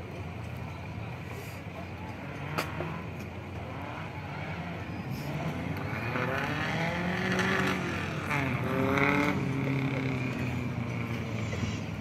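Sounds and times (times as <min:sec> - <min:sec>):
engine revving: 0:02.2 - 0:12.0.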